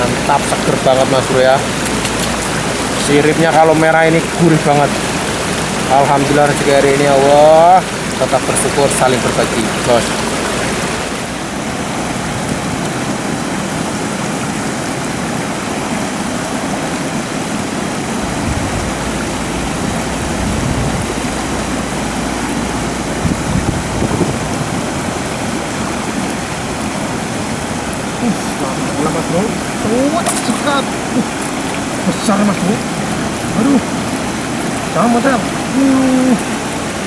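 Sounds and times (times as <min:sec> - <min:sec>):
water pouring over a weir: 0:00.0 - 0:37.0.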